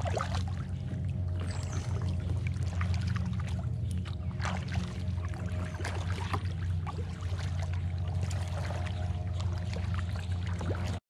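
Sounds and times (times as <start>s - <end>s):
low hum: 0.0s - 11.0s
paddle splashing water: 0.0s - 11.0s.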